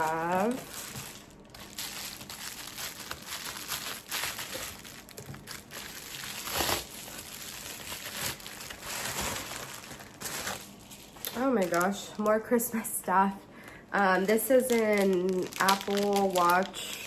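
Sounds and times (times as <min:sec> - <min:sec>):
packaging crinkling and rustling: 0:00.0 - 0:12.7, 0:13.6 - 0:17.0.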